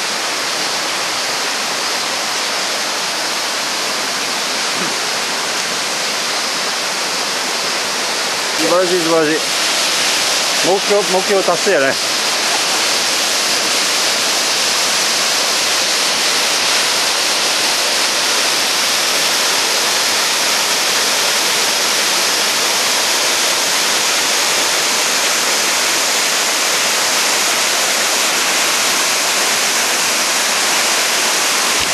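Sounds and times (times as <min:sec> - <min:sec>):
waterfall rushing onto rocks: 0:00.0 - 0:31.9.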